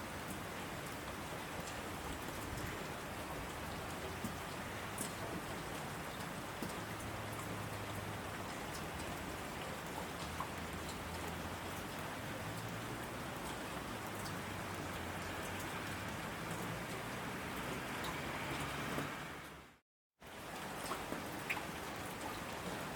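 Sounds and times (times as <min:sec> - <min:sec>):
heavy rain on asphalt: 0:00.0 - 0:22.9.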